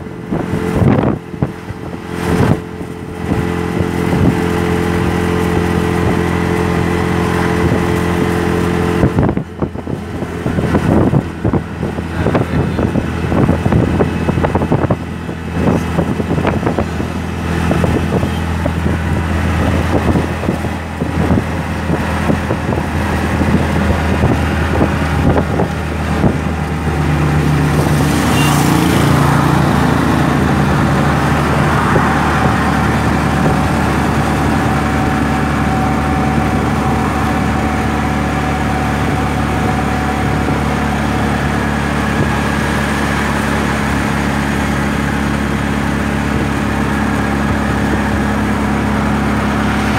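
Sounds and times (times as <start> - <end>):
auto rickshaw engine running: 0.0 - 49.9
wind buffeting and flapping: 0.0 - 49.9.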